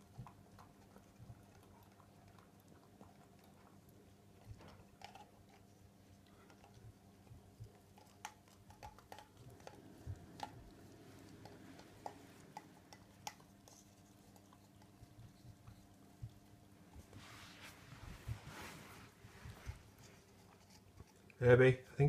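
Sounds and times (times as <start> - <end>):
puppy licking plastic pot: 0.0 - 17.2, 19.5 - 21.4.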